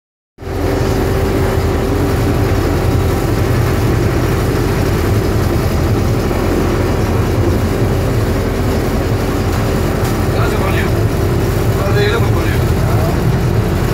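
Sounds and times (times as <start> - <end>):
rail vehicle engine droning: 0.4 - 13.9.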